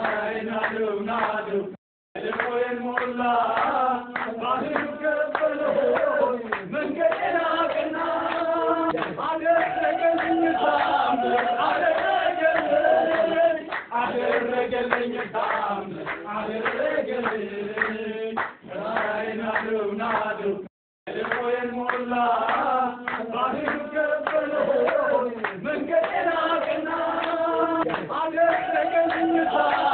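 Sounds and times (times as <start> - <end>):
hand-clapping: 0.0 - 1.6, 2.2 - 20.5, 21.1 - 29.9
voices singing together: 0.0 - 29.9.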